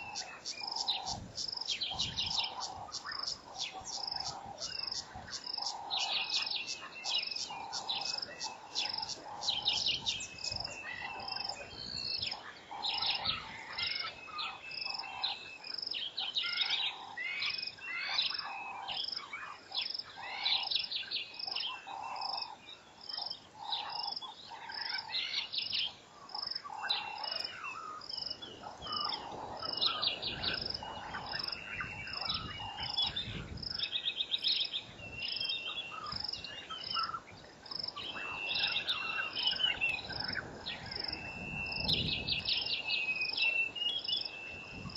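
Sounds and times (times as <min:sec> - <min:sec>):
birds chirping and trilling: 0:00.0 - 0:44.9.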